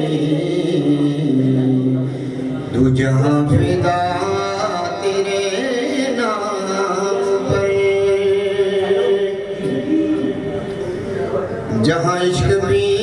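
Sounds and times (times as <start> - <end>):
man singing into microphone: 0.0 - 10.6, 11.7 - 13.0.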